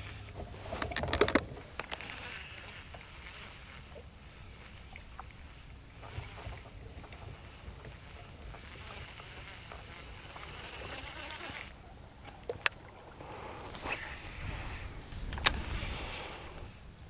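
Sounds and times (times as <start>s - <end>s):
water lapping: 0.0s - 17.0s
wind: 0.0s - 17.0s.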